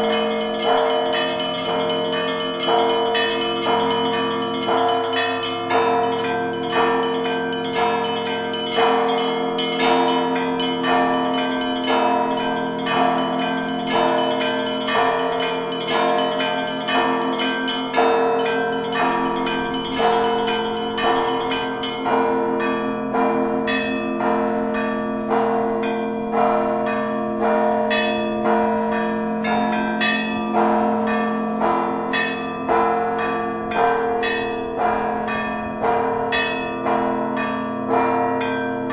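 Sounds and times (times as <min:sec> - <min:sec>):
large bells ringing: 0:00.0 - 0:38.9
small church bells striking: 0:00.0 - 0:38.9.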